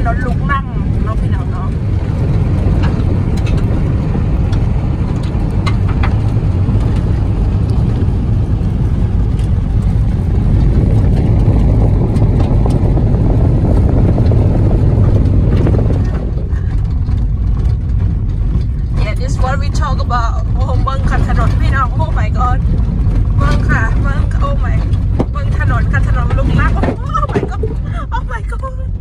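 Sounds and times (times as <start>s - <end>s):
gravel ticks: 0.0s - 28.6s
tyre rumble on gravel road: 0.6s - 28.0s.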